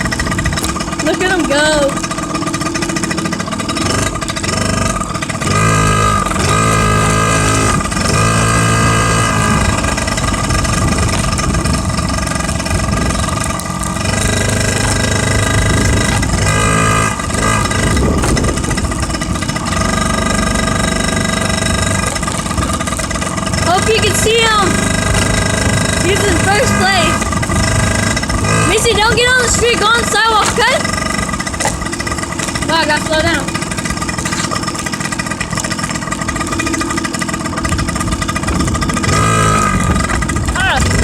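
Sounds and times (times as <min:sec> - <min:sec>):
small motorcycle engine revving: 0:00.0 - 0:41.0
wind rumbling on microphone: 0:00.0 - 0:41.0.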